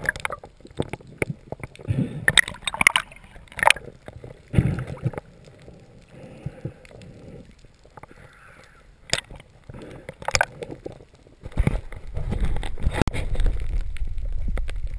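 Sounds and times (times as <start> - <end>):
underwater rushing water: 0.0 - 14.9.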